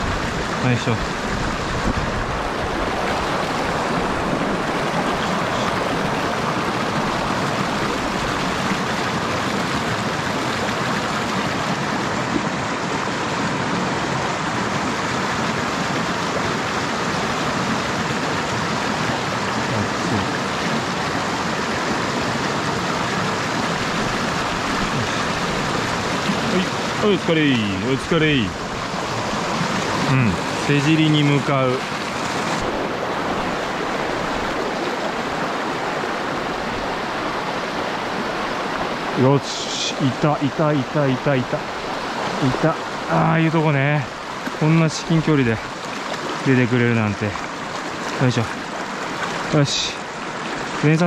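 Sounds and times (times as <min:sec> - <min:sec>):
stream rushing over boulders: 0:00.0 - 0:51.0.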